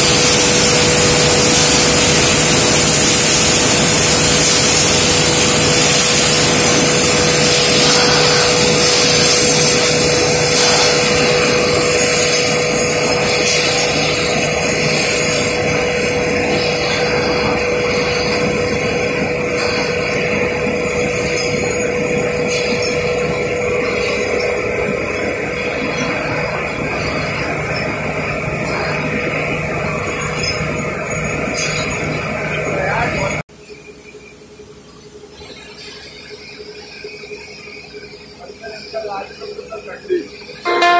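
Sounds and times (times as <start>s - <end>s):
machinery hiss: 0.0s - 33.4s
machinery hum: 0.0s - 40.9s.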